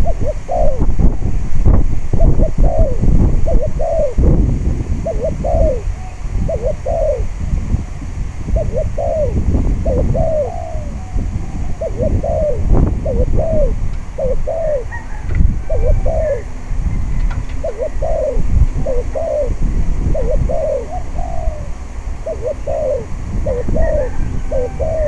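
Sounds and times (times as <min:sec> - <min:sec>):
dove cooing: 0:00.0 - 0:01.4, 0:02.2 - 0:04.4, 0:05.0 - 0:25.0
wind buffeting microphone: 0:00.0 - 0:25.0.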